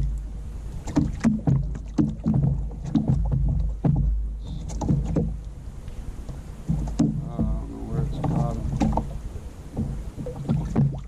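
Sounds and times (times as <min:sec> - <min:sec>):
low rumble: 0:00.0 - 0:11.0
water knocking against kayak hull: 0:00.8 - 0:05.4, 0:06.2 - 0:11.0.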